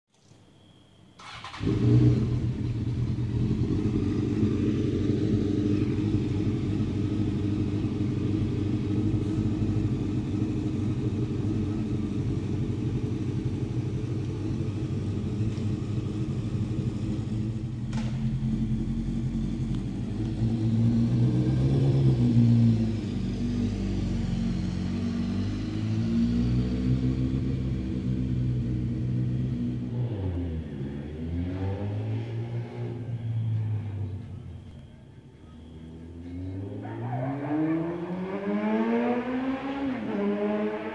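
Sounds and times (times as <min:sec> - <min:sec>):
motorcycle engine idling and revving: 0:01.2 - 0:40.9.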